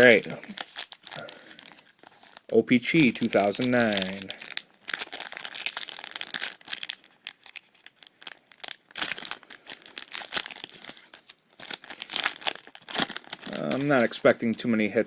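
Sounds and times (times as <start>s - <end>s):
wrapper crinkling and tearing: 0.0s - 14.7s.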